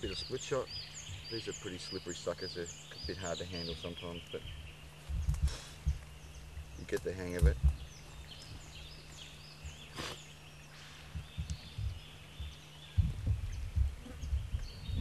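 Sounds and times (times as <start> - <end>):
low rumbling thumps: 0.0 - 10.0, 10.7 - 15.0
birds chirping: 0.0 - 15.0
steady high background hum: 0.0 - 15.0.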